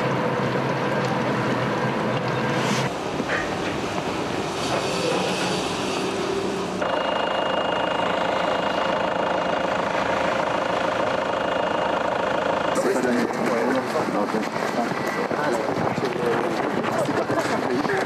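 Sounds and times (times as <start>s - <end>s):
high whine: 0.0s - 16.2s
diesel engine running: 0.0s - 18.0s
outdoor background noise: 0.0s - 18.0s.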